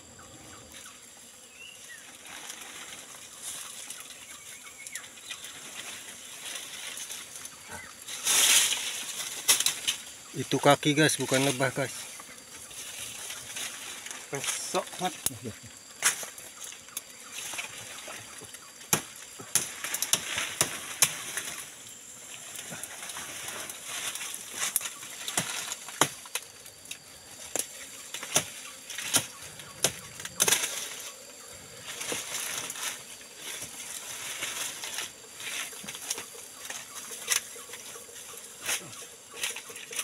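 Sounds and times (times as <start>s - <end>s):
steady high hiss: 0.0s - 40.0s
leaves and twigs snapping: 1.9s - 10.3s, 11.2s - 40.0s.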